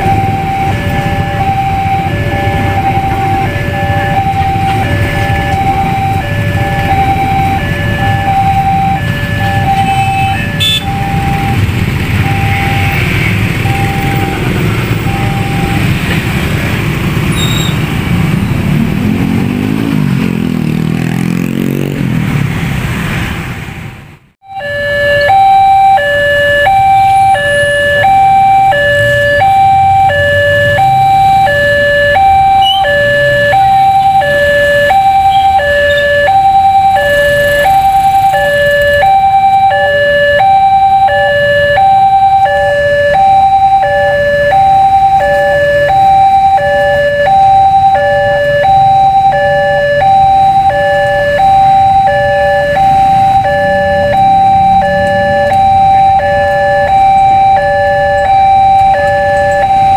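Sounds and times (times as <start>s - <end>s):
level crossing two-tone alarm: 0.0s - 17.3s, 24.4s - 59.9s
low traffic hum: 0.0s - 59.9s.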